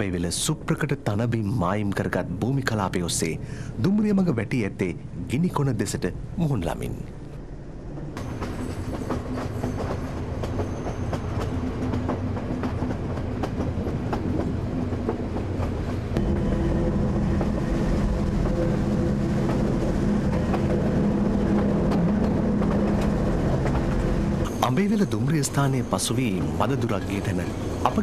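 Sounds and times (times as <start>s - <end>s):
train rumble and low hum: 0.0s - 28.0s.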